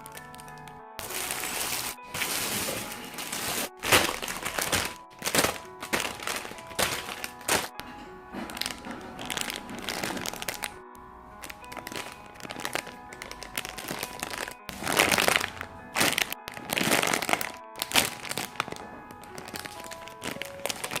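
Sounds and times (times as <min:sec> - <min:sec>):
plastic packaging crinkling: 0:00.0 - 0:10.8, 0:11.4 - 0:21.0
background music: 0:00.0 - 0:21.0.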